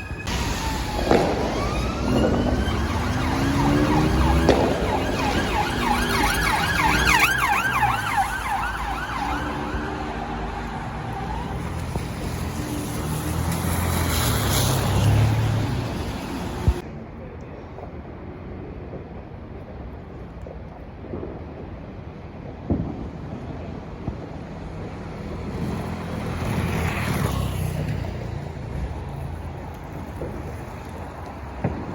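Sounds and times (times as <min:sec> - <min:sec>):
emergency vehicle sirens: 0:00.0 - 0:16.8, 0:22.7 - 0:31.9
vehicle engines and tyres rumbling: 0:00.0 - 0:31.9.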